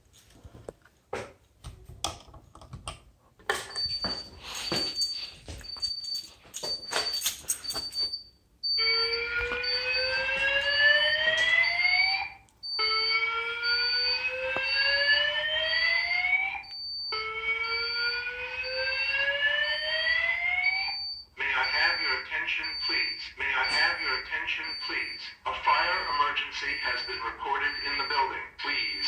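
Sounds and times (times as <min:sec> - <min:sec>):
fire alarm whoop tone: 0:03.7 - 0:29.0.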